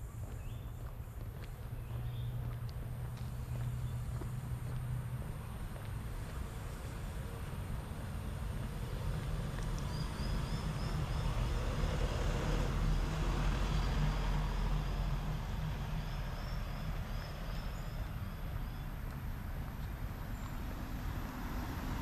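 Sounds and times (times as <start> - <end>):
road vehicle passing: 0.0 - 22.0.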